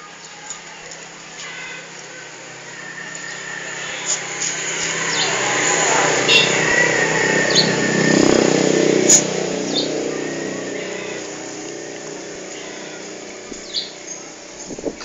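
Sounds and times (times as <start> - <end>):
motor vehicle engine: 0.0 - 15.0.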